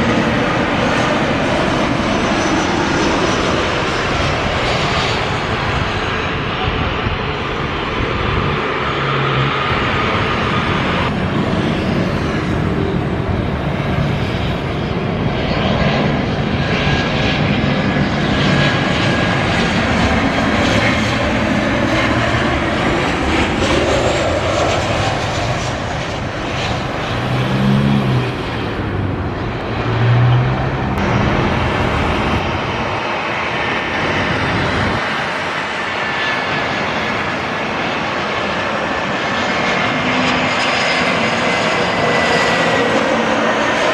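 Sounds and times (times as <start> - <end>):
airliner engines roaring: 0.0 - 43.9.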